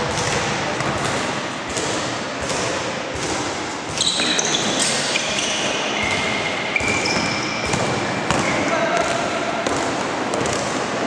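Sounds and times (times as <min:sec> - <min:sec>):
basketball bouncing: 0:00.0 - 0:10.7
sneakers squeaking on court: 0:01.7 - 0:10.8.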